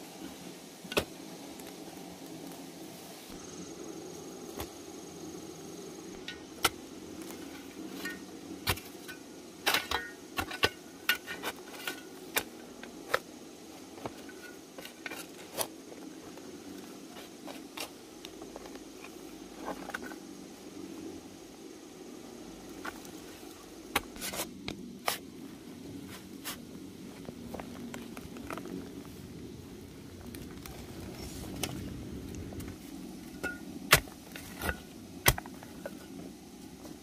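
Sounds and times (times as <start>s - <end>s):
faint high whine: 0.0s - 37.0s
low background hum: 0.0s - 37.0s.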